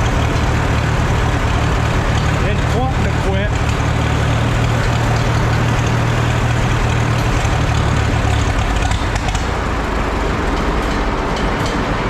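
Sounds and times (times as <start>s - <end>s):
tractor engine running unevenly: 0.0s - 12.0s.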